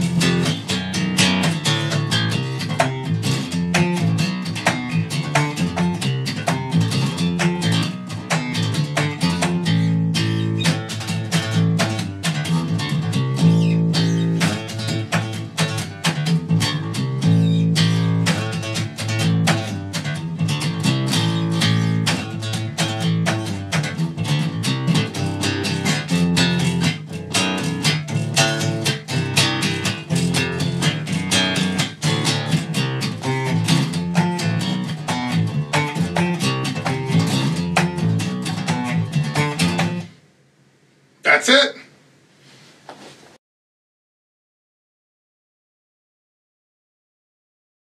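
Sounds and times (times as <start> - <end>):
electric bass fast riff: 0.0 - 40.0.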